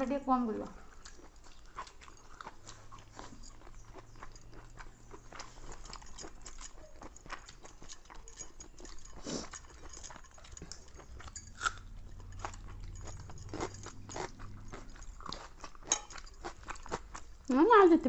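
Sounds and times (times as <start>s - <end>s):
chewing with wet mouth clicks: 0.5s - 17.6s.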